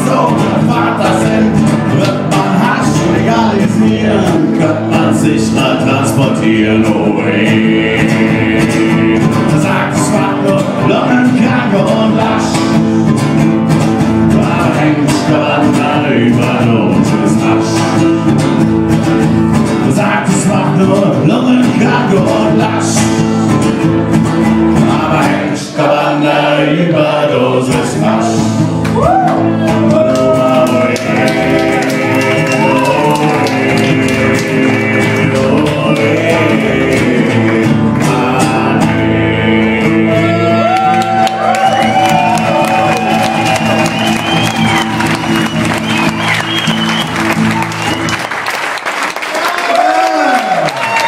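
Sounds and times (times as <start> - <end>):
man singing: 0.0 - 23.9, 24.8 - 46.4
acoustic guitar strumming: 0.0 - 48.4.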